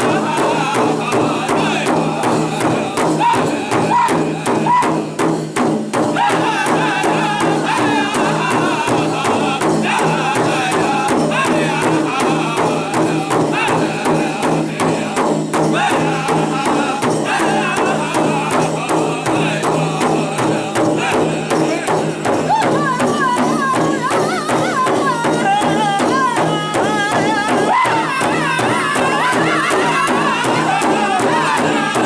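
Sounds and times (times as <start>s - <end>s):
big drum steady beat: 0.0s - 32.0s
group singing in high voices: 0.0s - 32.0s.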